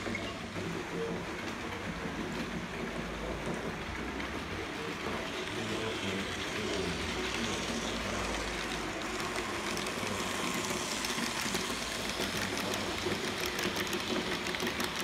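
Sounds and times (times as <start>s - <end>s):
model train running on track: 0.0s - 15.0s
wheels ticking over rails: 0.0s - 15.0s.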